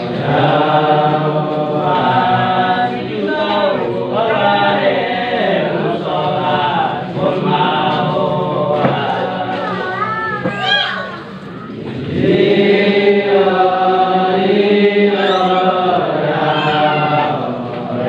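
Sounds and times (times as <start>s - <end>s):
men singing a cappella: 0.0s - 9.8s, 11.8s - 18.0s.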